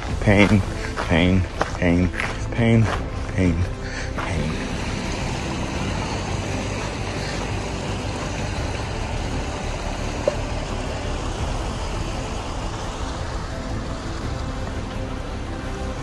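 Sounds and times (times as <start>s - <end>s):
creek rushing over rocks: 0.0s - 16.0s
low rumble: 0.0s - 16.0s.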